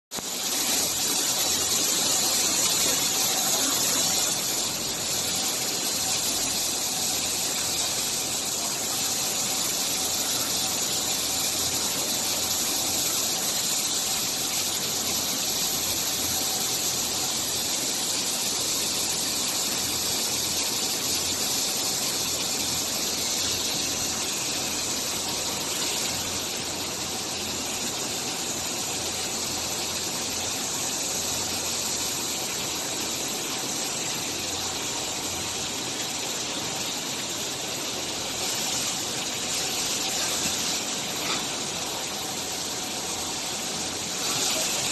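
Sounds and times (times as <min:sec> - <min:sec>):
factory machinery hissing: 0:00.2 - 0:44.9.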